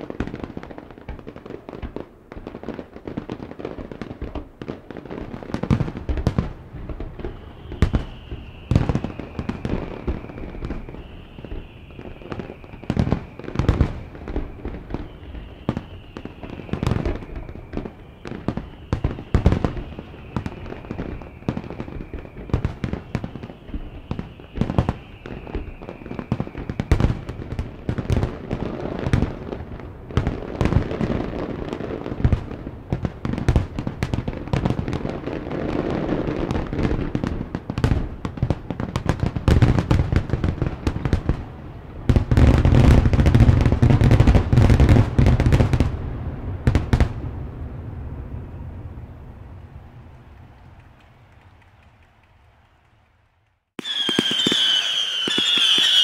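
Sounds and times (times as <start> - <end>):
fireworks bangs and pops: 0.0 - 48.4, 49.6 - 56.0.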